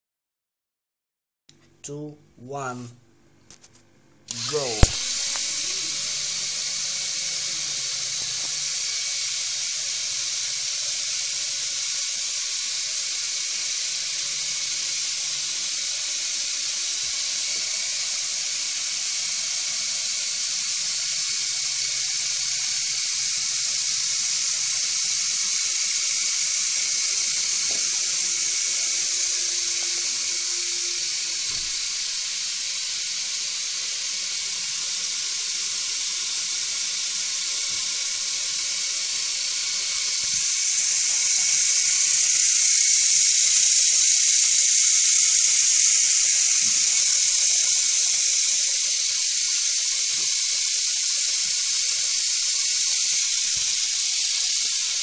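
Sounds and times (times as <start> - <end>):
toy electric motors whirring: 4.3 - 55.0.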